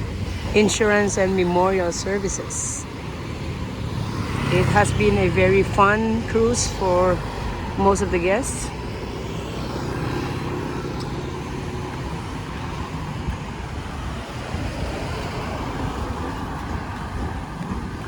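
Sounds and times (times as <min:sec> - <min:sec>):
engine hum: 0:00.0 - 0:18.0
street traffic rumble: 0:00.0 - 0:18.0.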